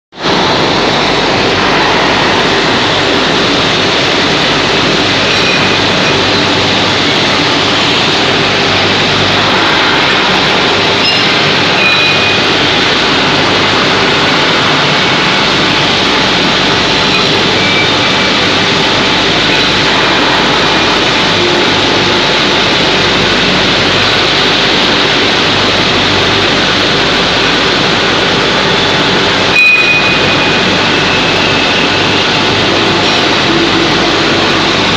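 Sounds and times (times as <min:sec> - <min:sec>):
machine rushing noise: 0:00.2 - 0:34.9.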